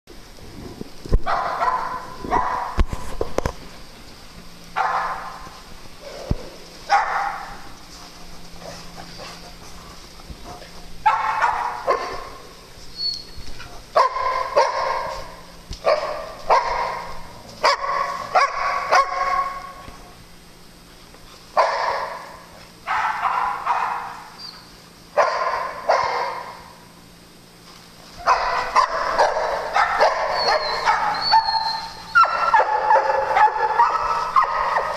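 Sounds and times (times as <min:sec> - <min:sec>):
dogs barking: 0:01.2 - 0:02.9, 0:04.7 - 0:19.9, 0:21.5 - 0:26.9, 0:28.2 - 0:34.9.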